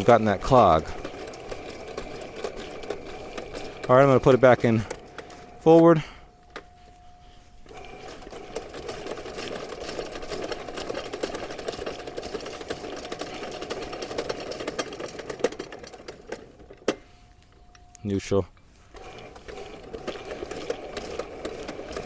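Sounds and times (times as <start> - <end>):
drain snake cable clattering: 0.0 - 6.8, 7.6 - 17.9, 18.9 - 22.0.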